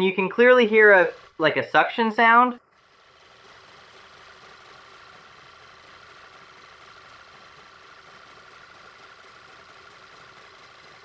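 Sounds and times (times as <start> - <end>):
car engine idling: 0.0 - 1.6, 2.2 - 11.0.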